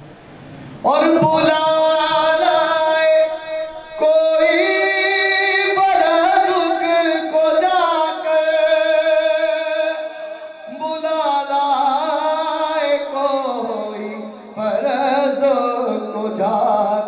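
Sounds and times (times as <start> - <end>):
man singing: 0.8 - 17.0.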